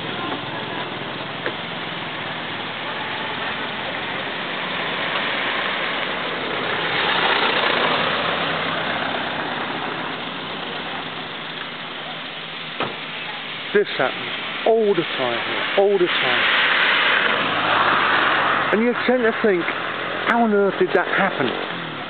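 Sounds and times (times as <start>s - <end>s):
truck driving past: 0.0s - 12.1s, 14.0s - 22.0s
engine idling: 0.0s - 22.0s.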